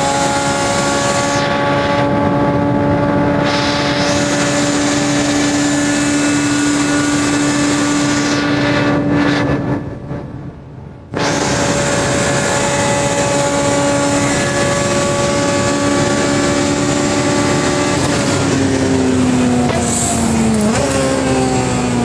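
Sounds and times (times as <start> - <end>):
car engine running hard: 0.0 - 22.0
road noise: 0.0 - 22.0.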